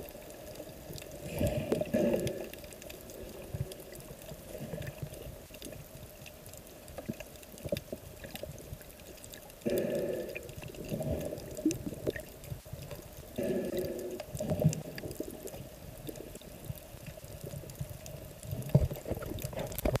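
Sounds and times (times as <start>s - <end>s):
faint clicks: 0.0s - 20.0s
water sloshing and bubbling: 0.0s - 20.0s.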